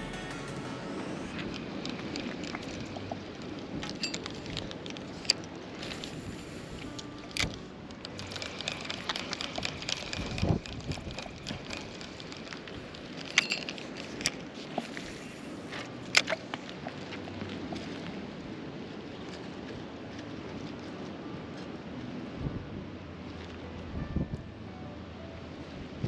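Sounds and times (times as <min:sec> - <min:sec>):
wind: 0:00.0 - 0:26.0
water noise around boat: 0:00.6 - 0:26.0.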